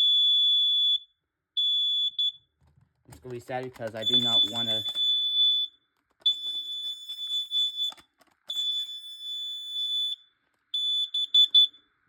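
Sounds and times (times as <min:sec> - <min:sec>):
smoke alarm beeping: 0:00.0 - 0:02.5, 0:04.0 - 0:11.8.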